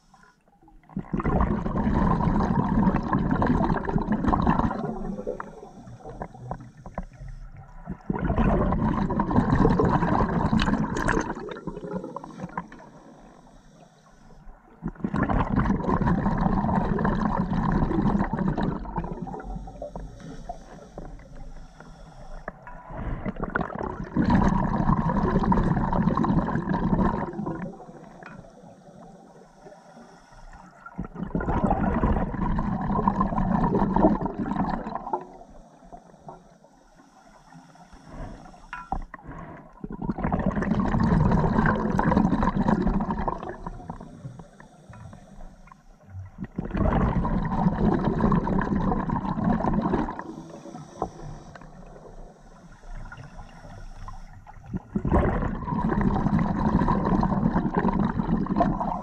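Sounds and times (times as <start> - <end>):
underwater exhaled bubbles: 0.0 - 59.0.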